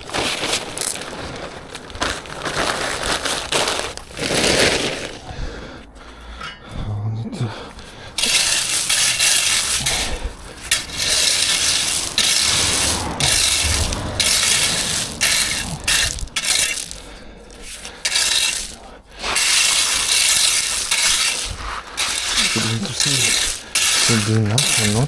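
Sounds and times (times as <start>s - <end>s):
shovel scraping gravel: 0.0s - 5.3s, 7.6s - 25.0s.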